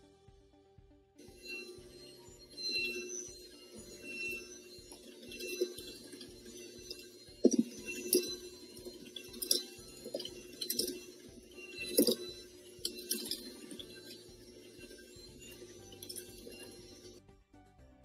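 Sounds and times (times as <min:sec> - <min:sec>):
beaters clinking against metal bowl: 0:01.3 - 0:17.2.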